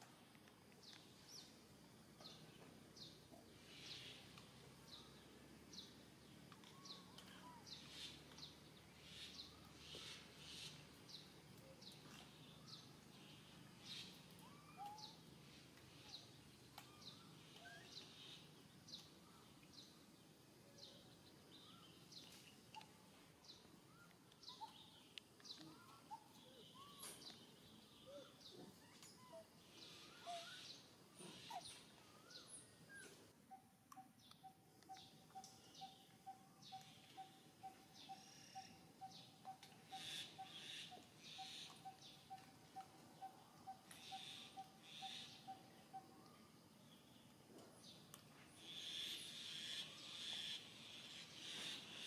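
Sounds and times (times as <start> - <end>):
light background hiss: 0.0 - 52.0.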